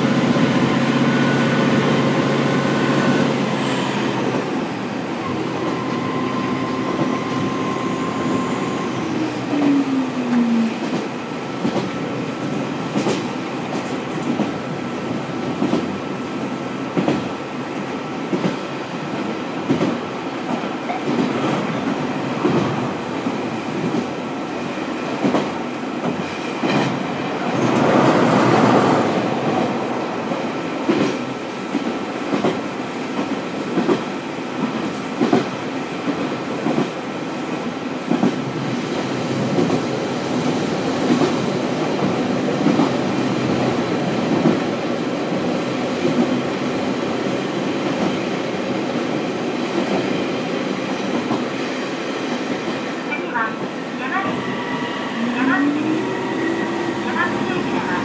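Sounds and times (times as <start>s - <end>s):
train rushing noise: 0.0s - 58.0s.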